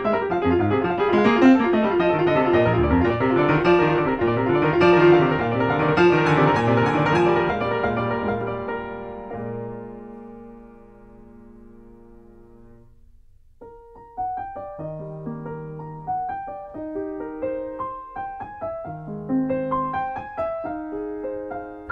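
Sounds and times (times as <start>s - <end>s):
background piano music: 0.0s - 21.9s.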